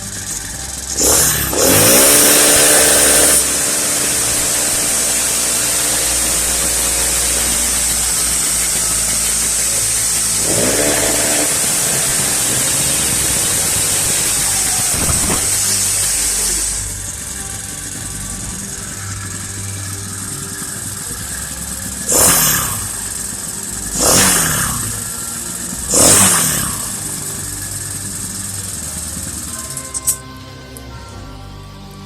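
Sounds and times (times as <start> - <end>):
small engine revving: 0.0 - 30.2.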